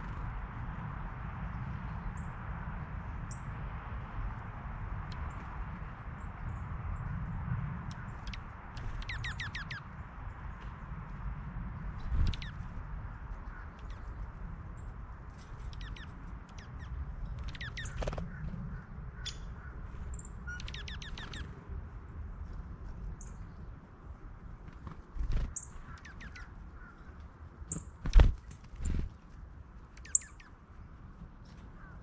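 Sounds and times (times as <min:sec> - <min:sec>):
steady low rumble: 0:00.0 - 0:32.0
songbirds chirping: 0:05.0 - 0:32.0.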